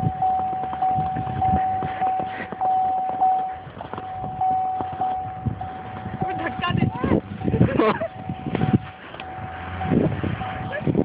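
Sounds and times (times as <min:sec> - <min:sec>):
car warning chime: 0:00.0 - 0:11.0.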